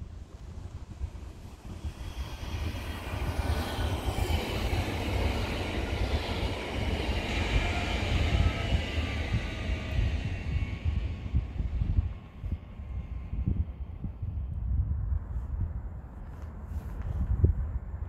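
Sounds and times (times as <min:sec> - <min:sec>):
train rail and wheel noise: 0:00.0 - 0:18.0
wind rumble on microphone: 0:00.0 - 0:18.0.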